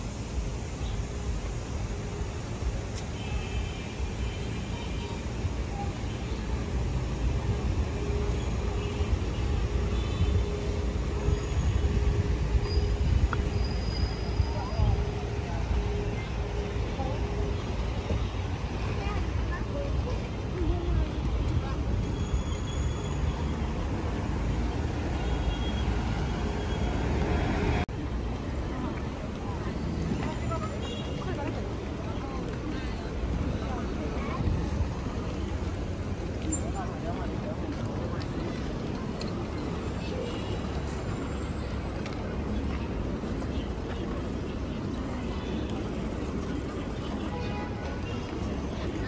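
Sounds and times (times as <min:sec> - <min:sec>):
background hubbub: 0:00.0 - 0:49.0
traffic rumbling: 0:00.0 - 0:49.0.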